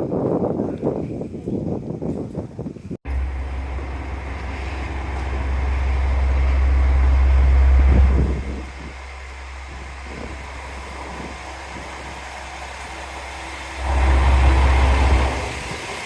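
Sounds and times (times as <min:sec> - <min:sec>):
wind buffeting microphone: 0:00.0 - 0:16.0
diesel train rumbling by: 0:03.1 - 0:16.0.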